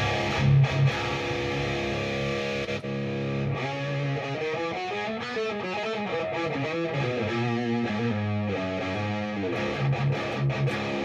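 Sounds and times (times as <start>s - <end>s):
distorted electric guitar: 0.0s - 11.0s
electric guitar riff: 0.0s - 11.0s.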